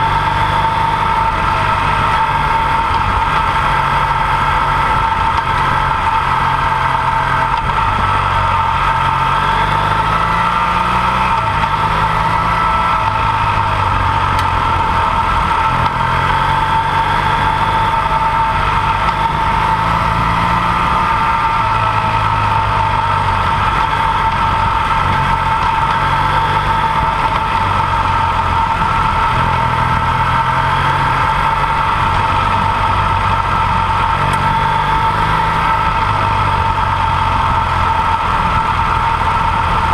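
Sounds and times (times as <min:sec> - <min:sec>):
high-pitched whine: 0:00.0 - 0:39.9
motorcycle engine running: 0:00.0 - 0:39.9.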